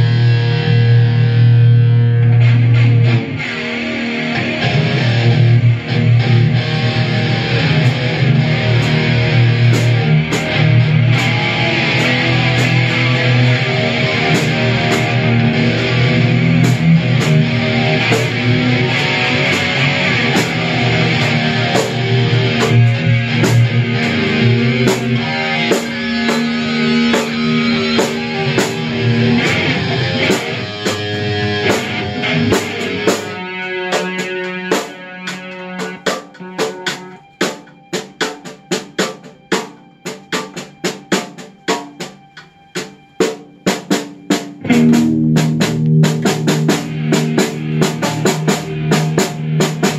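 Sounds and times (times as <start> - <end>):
drum kit: 0.0 - 49.9
live rock band playing: 0.0 - 49.9.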